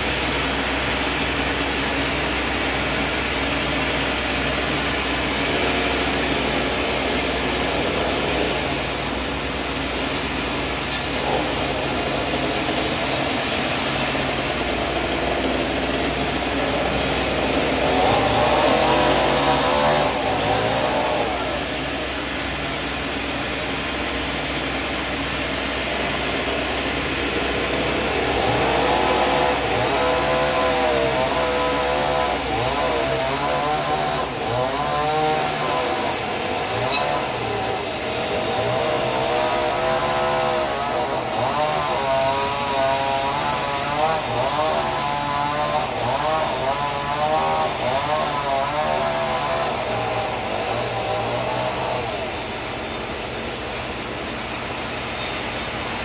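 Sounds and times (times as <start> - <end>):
engine hum: 0.0 - 56.0
saw blade whining: 0.0 - 56.0.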